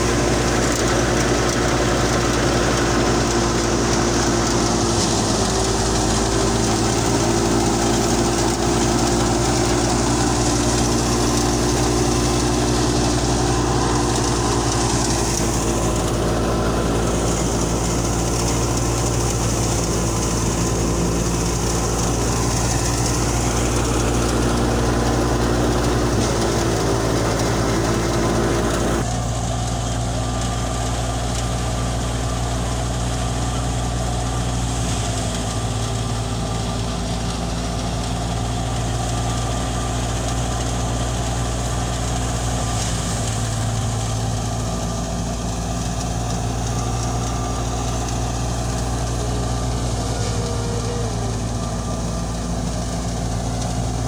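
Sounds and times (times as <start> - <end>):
threshing drum whirring: 0.0 - 54.0
tractor diesel engine droning: 0.0 - 54.0.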